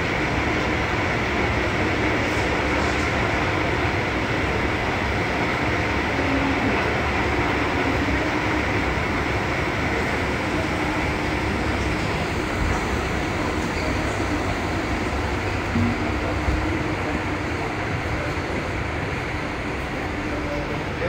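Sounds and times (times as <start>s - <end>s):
escalator mechanical rumble: 0.0s - 21.0s.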